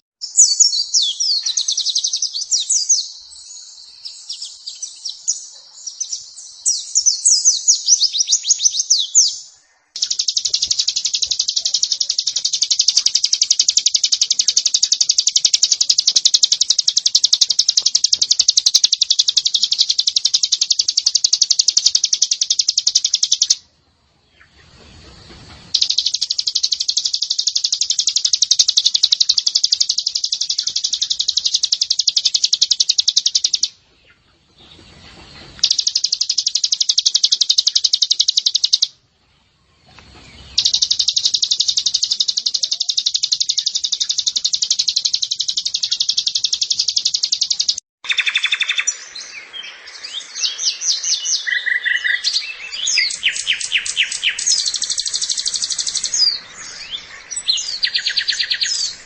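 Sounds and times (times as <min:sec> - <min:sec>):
bird chirps and whistles: 0:00.2 - 0:23.6, 0:25.7 - 0:33.8, 0:35.5 - 0:39.0, 0:40.4 - 0:59.0
bird high-pitched trills: 0:00.2 - 0:23.7, 0:25.7 - 0:33.8, 0:34.8 - 0:39.0, 0:40.2 - 0:59.0.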